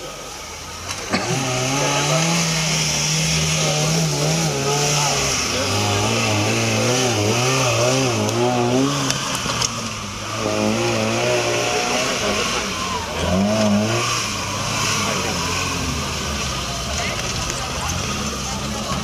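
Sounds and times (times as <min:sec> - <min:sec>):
engine running hard: 0:00.0 - 0:19.0.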